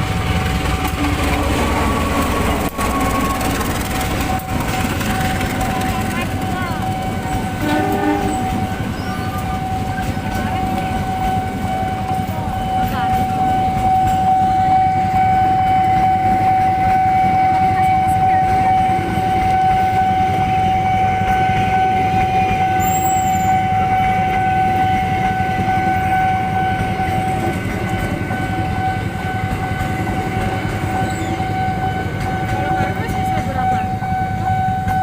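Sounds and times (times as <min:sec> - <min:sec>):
freight train wagons rumbling: 0:00.0 - 0:35.0.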